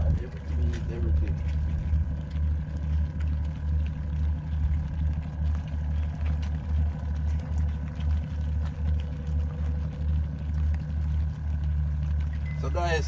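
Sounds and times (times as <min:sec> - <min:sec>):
engine idling: 0:00.0 - 0:13.0
faint steady whine: 0:00.0 - 0:13.0.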